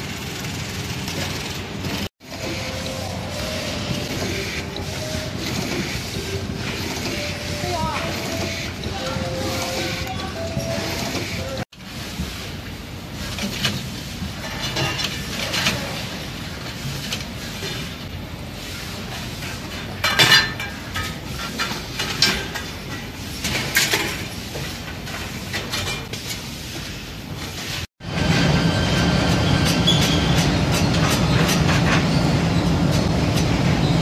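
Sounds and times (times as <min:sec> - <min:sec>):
factory machinery running: 0:00.0 - 0:34.0.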